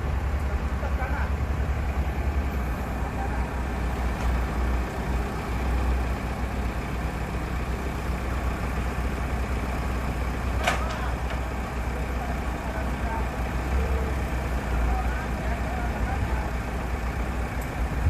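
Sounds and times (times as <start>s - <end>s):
diesel engine running with low hum: 0.0s - 18.0s.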